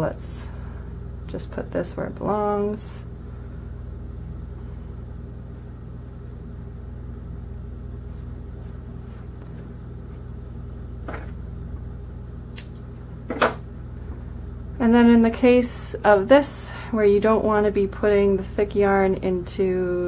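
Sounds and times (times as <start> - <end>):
low room tone hum: 0.0 - 20.0.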